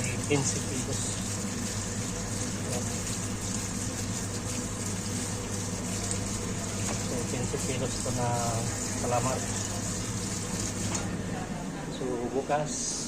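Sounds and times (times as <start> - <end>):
kitchen machinery humming: 0.0 - 13.0.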